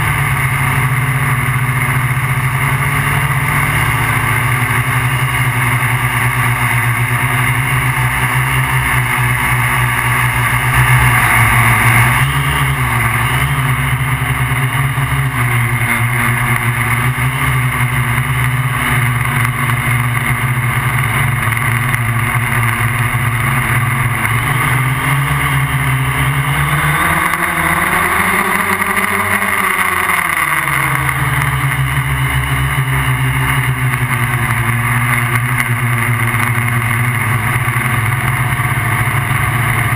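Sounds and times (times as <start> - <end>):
drone motors humming: 0.0 - 39.9.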